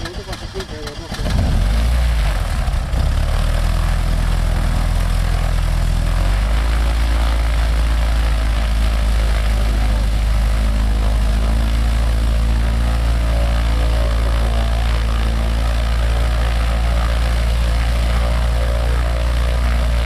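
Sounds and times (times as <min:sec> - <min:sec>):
aircraft engine and propeller idling: 0:00.0 - 0:20.0.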